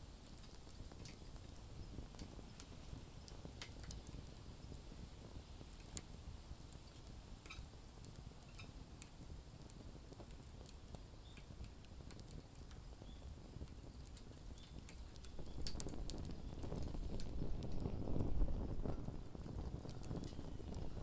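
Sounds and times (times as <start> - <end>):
campfire crackling and popping: 0.0 - 21.0
low rumbling hiss: 0.0 - 21.0.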